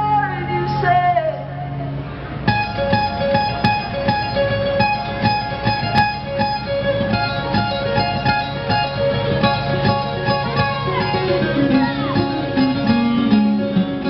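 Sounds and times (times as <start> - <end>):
acoustic guitar picking: 2.4 - 14.0.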